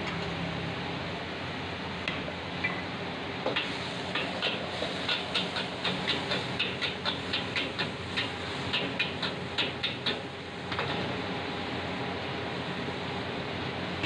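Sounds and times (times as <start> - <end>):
gas burner and frying hiss: 0.0 - 14.0.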